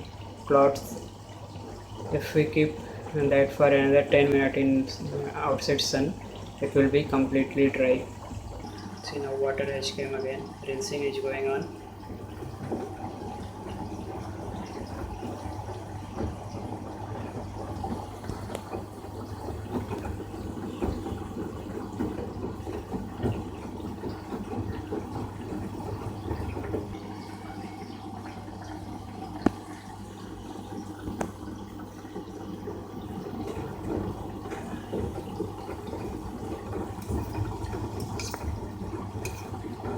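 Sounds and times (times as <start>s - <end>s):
washing machine hum: 0.0s - 39.9s
water sloshing in washing machine: 0.0s - 39.9s.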